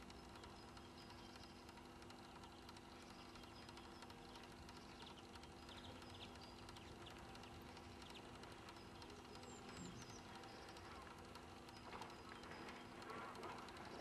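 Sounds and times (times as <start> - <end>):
low hum: 0.0 - 14.0
faint bird chirps: 0.1 - 14.0.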